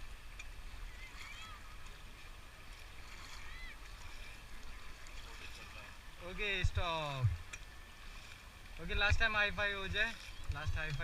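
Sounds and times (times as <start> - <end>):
faint water hiss: 0.0 - 11.0.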